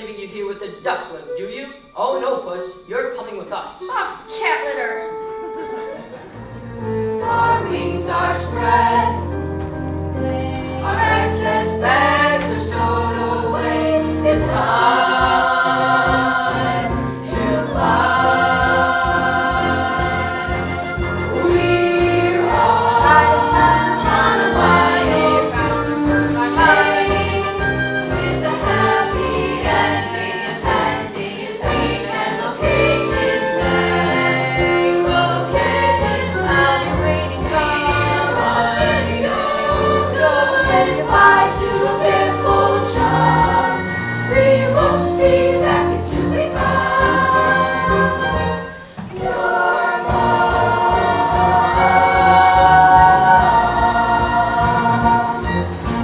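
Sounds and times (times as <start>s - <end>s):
choir singing with music: 0.0s - 56.0s.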